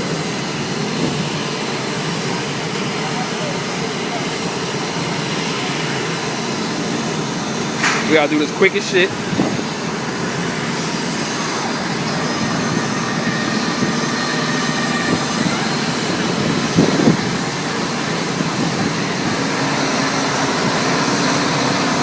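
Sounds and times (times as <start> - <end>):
machine droning: 0.0 - 22.0.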